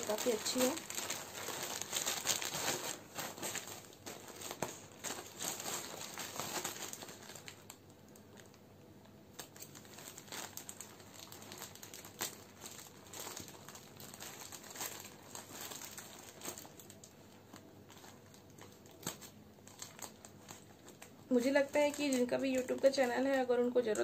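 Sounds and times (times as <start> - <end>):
packaging crinkling: 0.0 - 8.6, 9.3 - 24.0.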